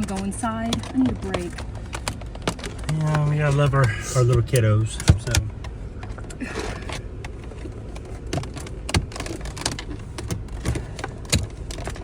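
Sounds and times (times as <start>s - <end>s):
minivan engine idling: 0.0s - 12.0s.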